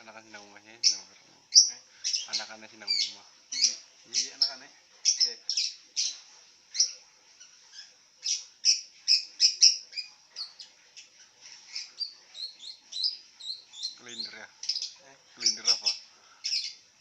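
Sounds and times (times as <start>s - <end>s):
lovebird chirping: 0.0s - 16.9s.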